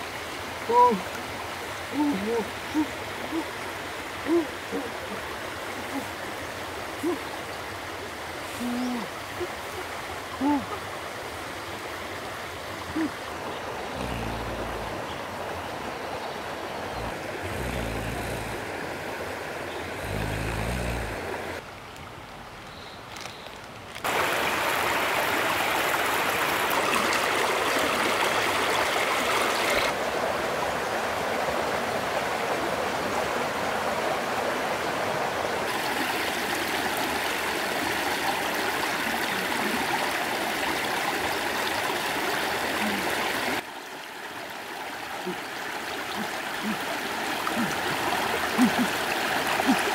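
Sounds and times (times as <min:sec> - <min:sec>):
stream flowing over stones: 0:00.0 - 0:49.9.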